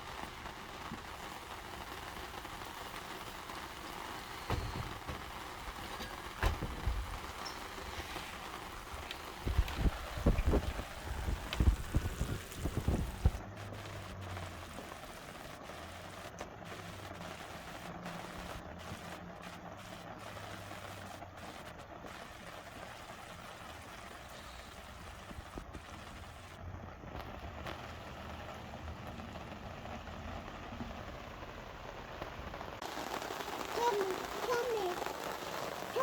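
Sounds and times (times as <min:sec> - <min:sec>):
food sizzling in a pan: 0:00.0 - 0:26.6, 0:30.8 - 0:36.0.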